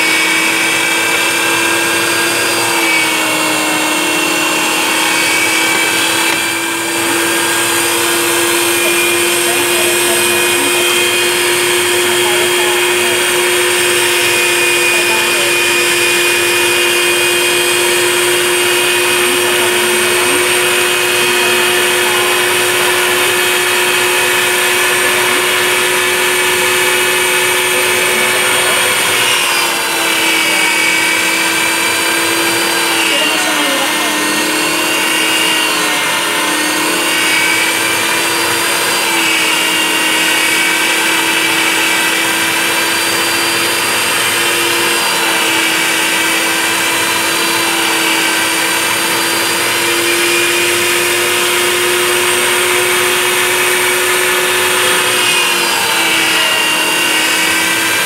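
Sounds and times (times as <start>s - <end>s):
meat grinder motor whining: 0.0s - 58.0s.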